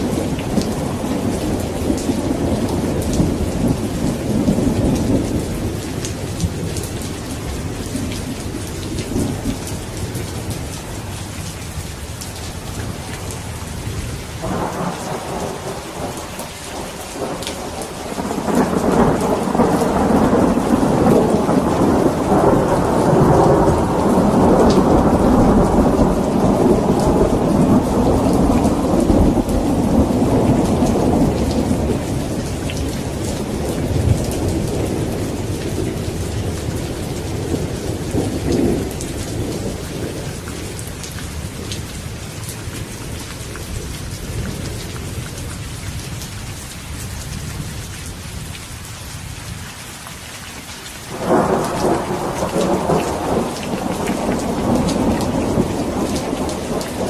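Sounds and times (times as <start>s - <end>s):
rolling thunder: 0.0s - 11.2s, 12.4s - 43.2s, 51.1s - 57.0s
steady rain: 0.0s - 57.0s.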